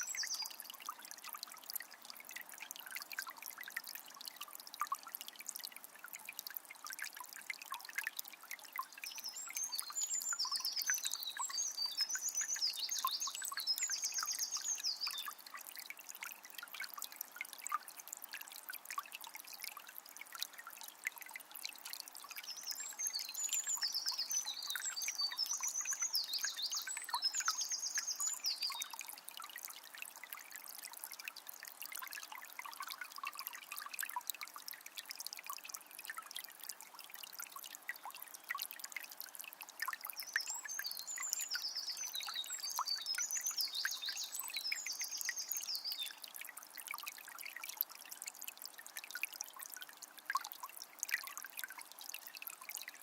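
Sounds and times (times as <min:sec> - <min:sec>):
spring water trickling and splashing: 0:00.0 - 0:53.0.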